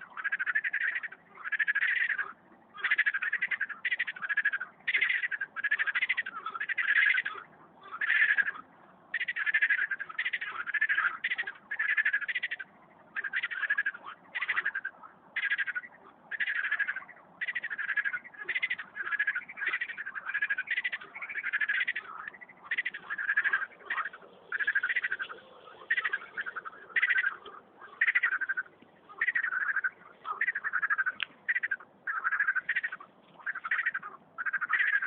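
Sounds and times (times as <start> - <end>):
frogs croaking: 0.0 - 35.0.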